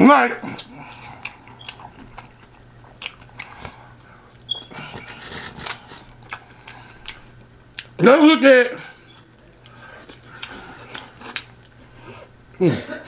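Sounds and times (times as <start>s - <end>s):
person chewing food: 0.4s - 8.0s, 8.9s - 12.6s.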